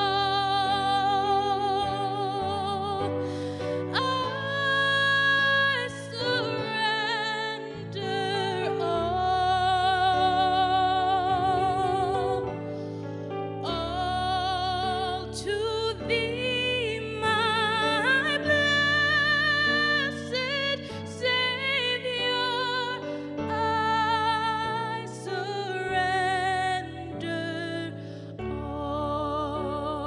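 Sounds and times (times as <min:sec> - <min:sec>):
woman singing with vibrato: 0:00.0 - 0:12.6, 0:13.6 - 0:30.0
electric keyboard chords: 0:00.0 - 0:30.0.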